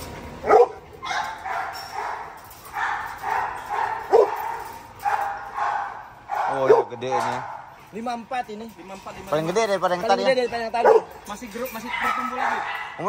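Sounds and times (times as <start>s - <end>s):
dogs barking: 0.4s - 8.3s, 10.1s - 13.0s.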